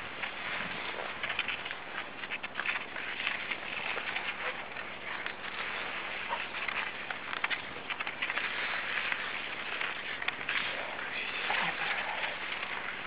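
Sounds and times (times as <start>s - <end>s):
skis sliding over packed snow: 0.0s - 13.0s.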